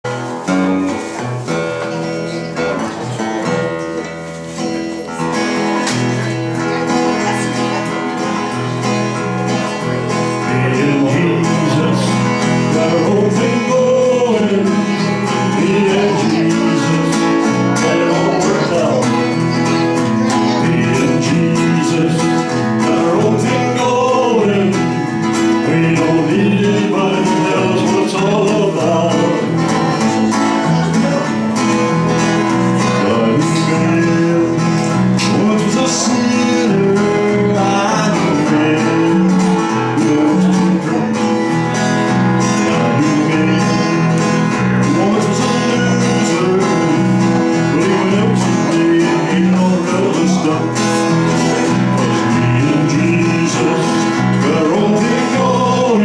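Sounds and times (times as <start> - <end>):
acoustic guitars strumming: 0.0 - 56.0
man singing: 0.0 - 56.0.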